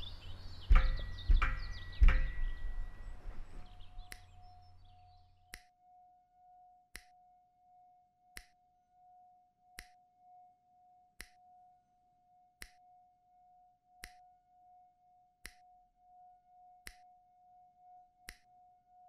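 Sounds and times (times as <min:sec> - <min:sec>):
wavering held tone: 0:00.0 - 0:19.0.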